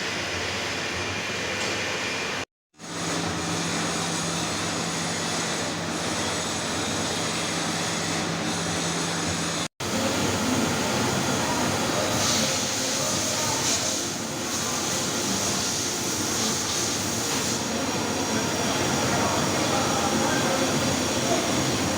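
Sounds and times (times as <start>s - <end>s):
machine running noise: 0.0s - 21.9s.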